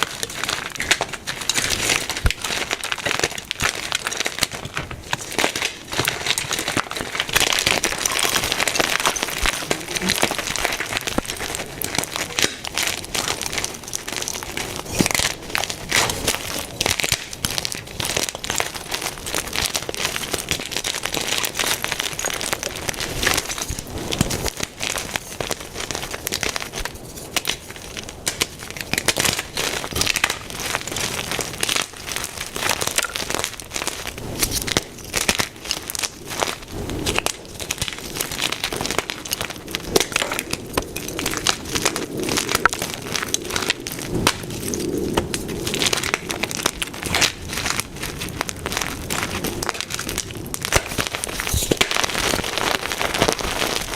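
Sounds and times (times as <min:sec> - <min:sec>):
chalk being crushed by hand: 0:00.0 - 0:53.9.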